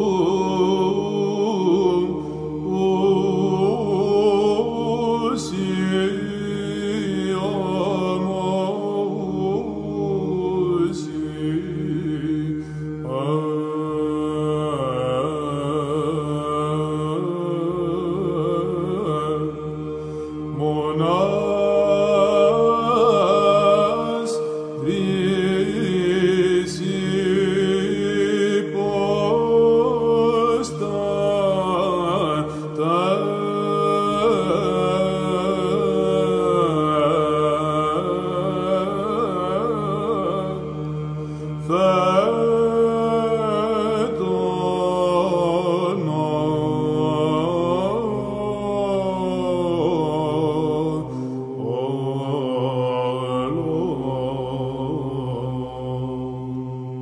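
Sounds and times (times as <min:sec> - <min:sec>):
man chanting: 0:00.0 - 0:19.9, 0:20.5 - 0:56.6
held vocal drone: 0:00.0 - 0:57.0.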